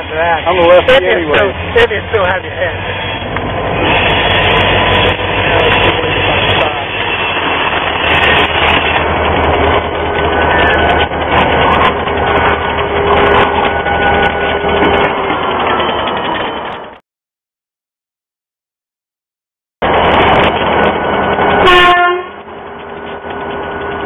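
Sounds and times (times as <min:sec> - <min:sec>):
locomotive engine drone: 0:00.0 - 0:17.0, 0:19.8 - 0:24.0
train rumbling on rails: 0:00.0 - 0:17.0, 0:19.8 - 0:24.0.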